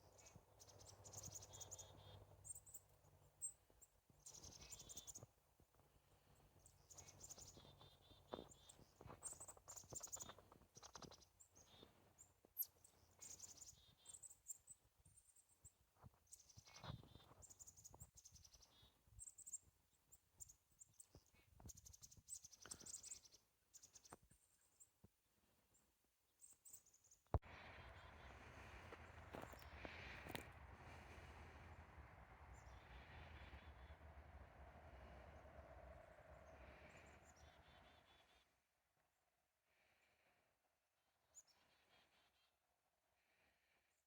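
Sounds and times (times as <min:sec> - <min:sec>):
songbirds chirping and trilling: 0:00.0 - 0:25.0, 0:25.7 - 0:38.6.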